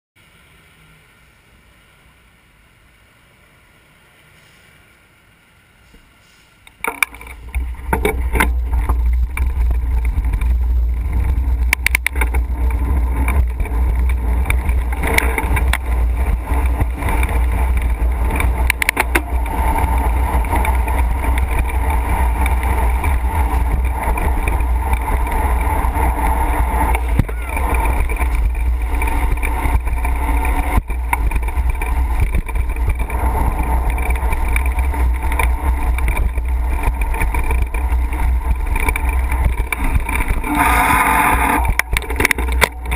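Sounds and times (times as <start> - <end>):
street traffic: 0.2 - 42.9
wind rumble on microphone: 6.8 - 42.9.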